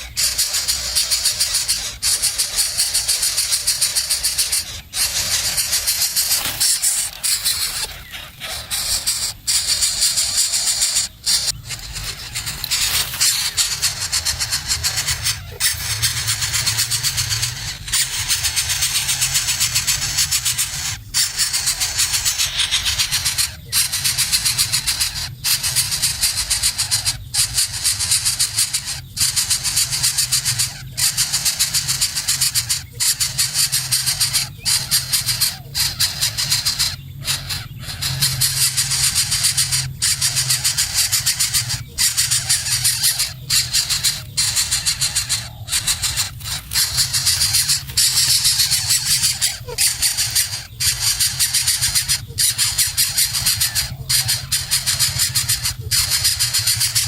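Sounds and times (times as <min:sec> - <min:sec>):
baby birds begging calls: 0:00.0 - 0:57.0.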